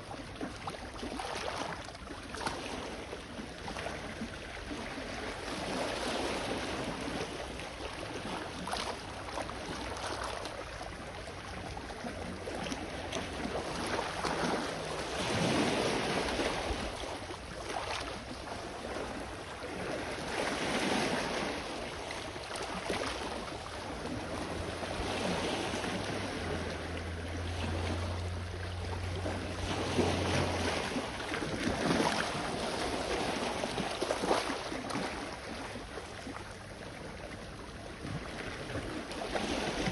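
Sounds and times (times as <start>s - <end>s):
sea waves washing onto shore: 0.0s - 39.9s
low steady hum: 1.9s - 20.6s, 21.2s - 39.9s.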